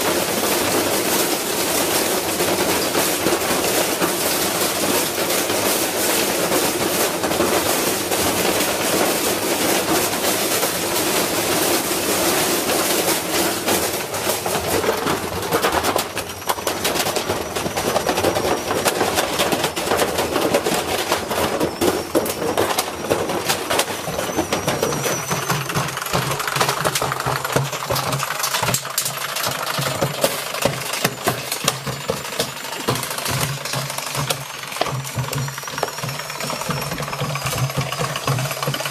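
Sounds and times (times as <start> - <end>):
washing machine banging and rattling: 0.0 - 38.9.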